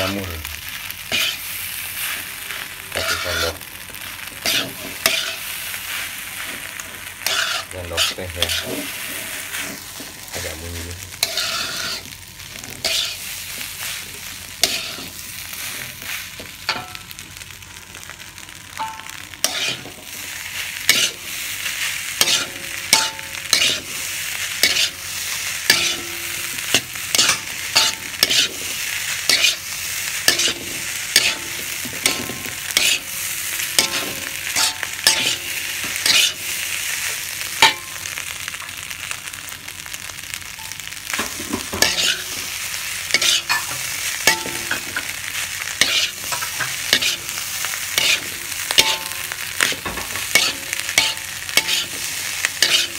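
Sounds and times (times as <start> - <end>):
rice sizzling in a wok: 0.0 - 52.9
metal spatula scraping a wok: 1.1 - 3.6, 4.4 - 10.4, 11.1 - 14.0, 14.6 - 17.0, 18.8 - 37.9, 41.1 - 52.9.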